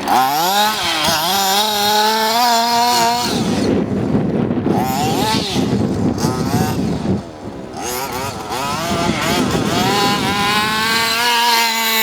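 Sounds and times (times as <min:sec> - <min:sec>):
model car engine revving: 0:00.0 - 0:04.0, 0:04.6 - 0:12.0.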